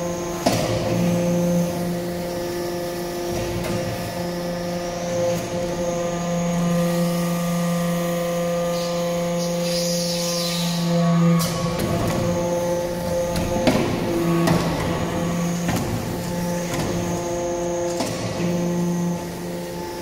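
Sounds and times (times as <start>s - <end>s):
hydraulic press humming: 0.0s - 20.0s.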